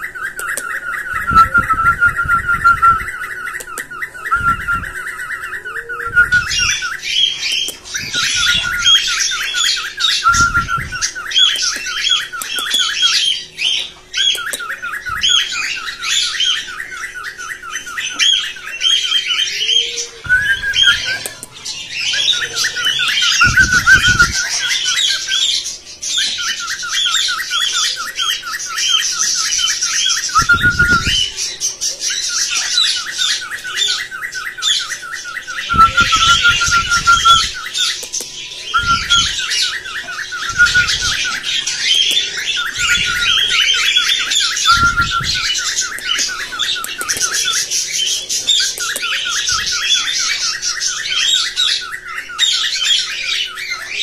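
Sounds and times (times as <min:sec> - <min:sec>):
parrots chattering and squawking: 0:00.0 - 0:54.0.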